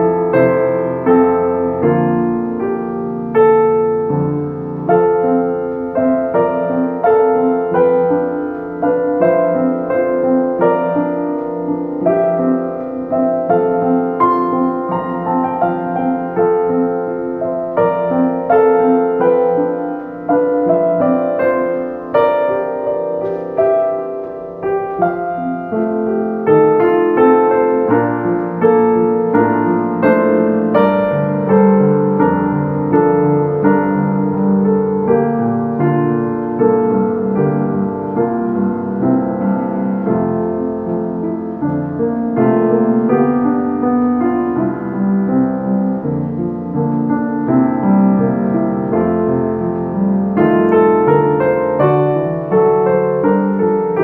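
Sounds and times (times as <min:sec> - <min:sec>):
calm piano piece: 0:00.0 - 0:54.0.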